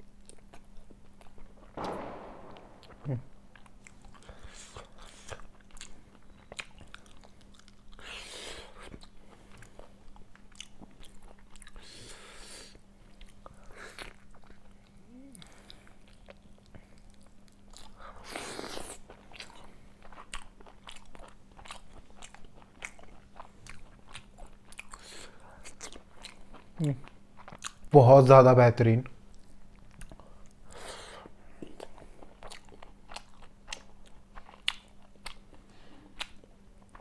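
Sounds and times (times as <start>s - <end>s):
faint steady hum: 0.0s - 37.0s
person chewing with mouth clicks: 0.2s - 1.5s, 3.6s - 12.0s, 12.6s - 27.9s, 29.3s - 30.6s, 31.5s - 37.0s.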